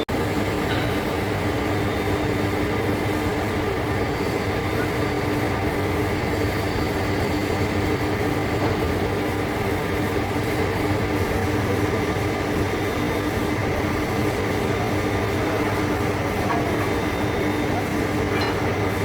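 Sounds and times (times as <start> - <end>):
lathe running: 0.0 - 19.0.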